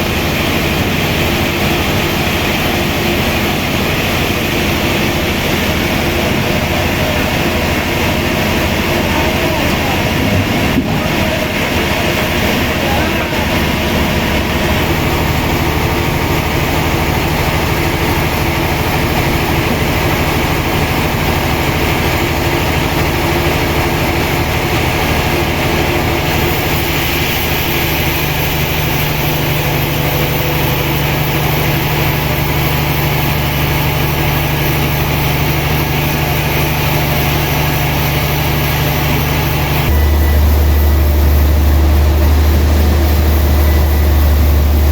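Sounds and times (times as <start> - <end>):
sawmill machinery humming: 0.0 - 44.9.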